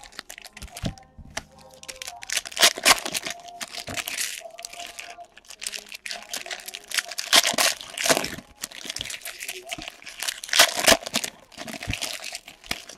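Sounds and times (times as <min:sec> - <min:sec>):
foil wrappers crinkling and tearing: 0:00.0 - 0:12.9.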